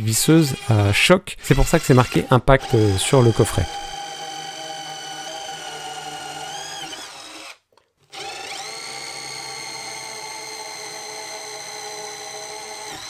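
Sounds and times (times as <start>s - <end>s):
cordless drill whining into wood: 0.5s - 13.0s.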